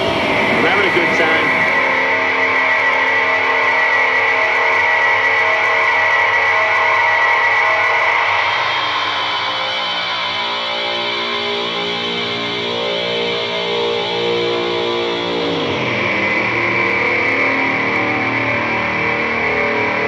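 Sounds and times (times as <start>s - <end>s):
distorted noise drone: 0.0s - 20.0s.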